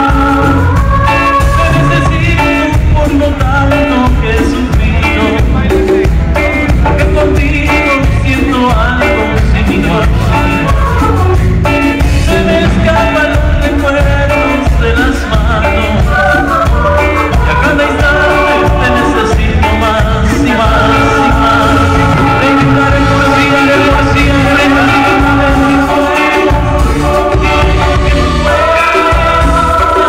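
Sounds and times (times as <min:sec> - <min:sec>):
congas: 0:00.0 - 0:30.0
live band playing latin dance music: 0:00.0 - 0:30.0.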